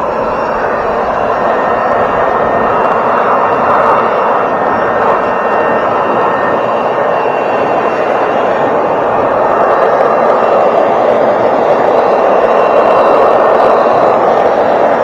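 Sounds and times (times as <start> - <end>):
faint steady whine: 0.0 - 15.0
rushing air: 0.0 - 15.0.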